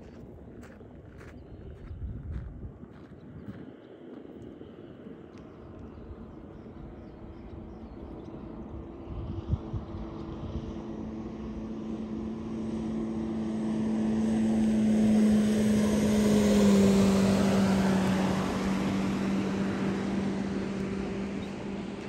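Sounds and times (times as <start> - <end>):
motorboat engine passing: 3.6 - 22.0.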